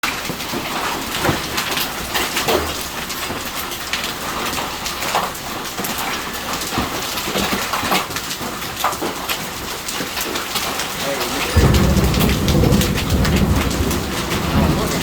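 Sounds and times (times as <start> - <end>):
hailstones hitting a roof: 0.0 - 15.0.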